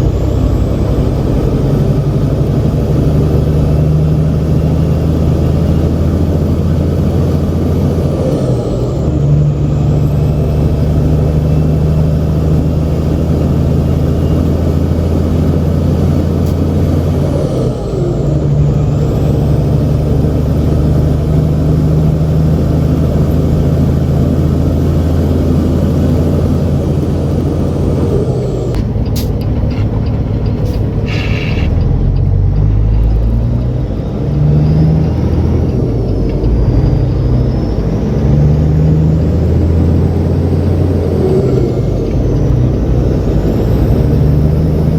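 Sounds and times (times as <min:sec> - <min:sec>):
truck diesel engine running: 0:00.0 - 0:44.9.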